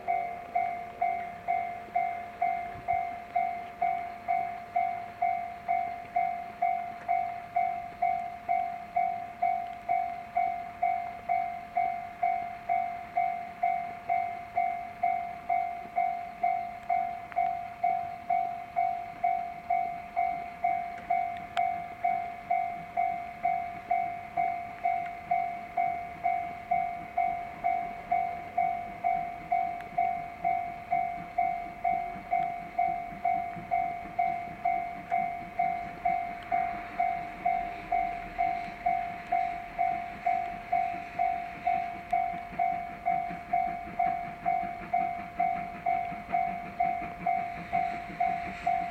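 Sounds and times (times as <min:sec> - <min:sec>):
faint train rumble: 0:00.0 - 0:48.9
level-crossing alarm clanging: 0:00.0 - 0:48.9.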